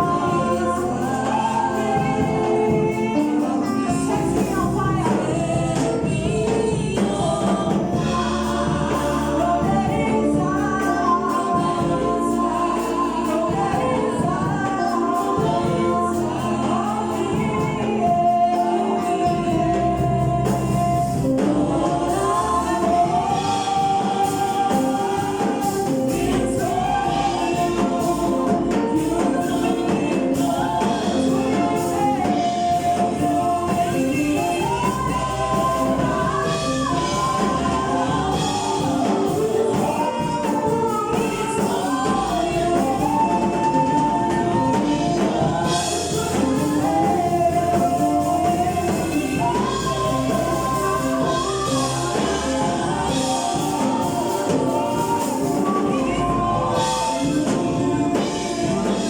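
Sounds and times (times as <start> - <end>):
gospel choir singing: 0.0 - 59.0.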